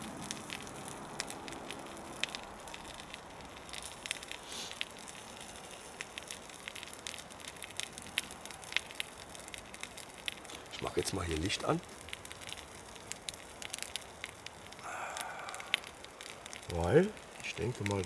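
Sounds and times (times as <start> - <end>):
fire pops and clicks: 0.0 - 18.0
low hiss: 0.0 - 18.0
wood fire crackling: 0.0 - 18.0.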